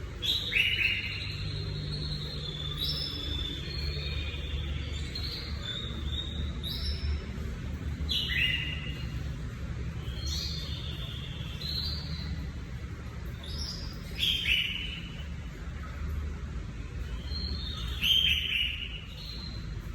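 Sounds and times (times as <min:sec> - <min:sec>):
canary singing trills: 0:00.0 - 0:16.0, 0:17.0 - 0:19.9.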